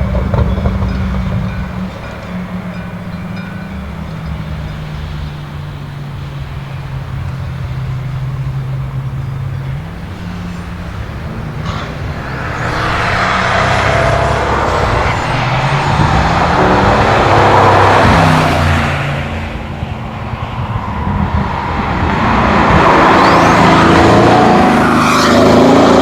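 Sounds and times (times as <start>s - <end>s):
car engine running: 0.0s - 26.0s
road noise of passing car: 0.0s - 26.0s.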